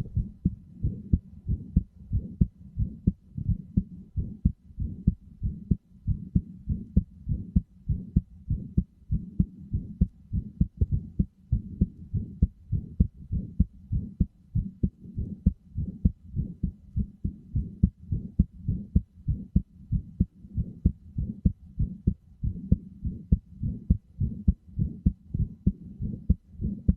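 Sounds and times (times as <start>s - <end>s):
heartbeat thumps: 0.0s - 26.9s.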